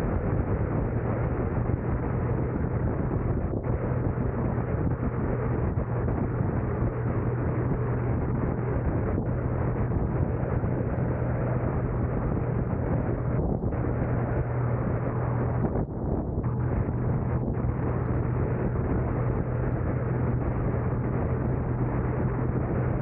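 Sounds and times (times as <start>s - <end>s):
low hum: 0.0s - 23.0s
road and wind noise: 0.0s - 23.0s.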